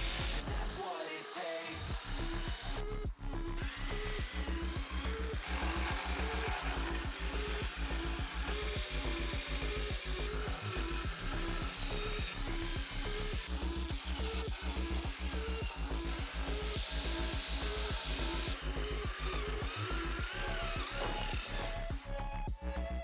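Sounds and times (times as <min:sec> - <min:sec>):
instrumental music with beat and bass: 0:00.0 - 0:00.8, 0:01.9 - 0:23.0.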